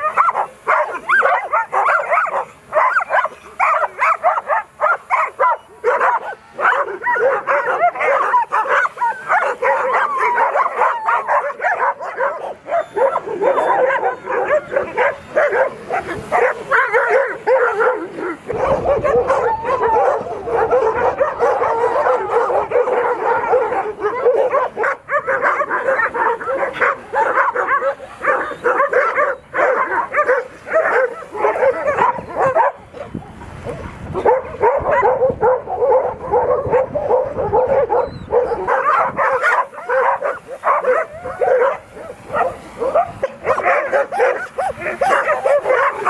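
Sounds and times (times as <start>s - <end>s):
dogs barking and yelping: 0.0s - 46.0s.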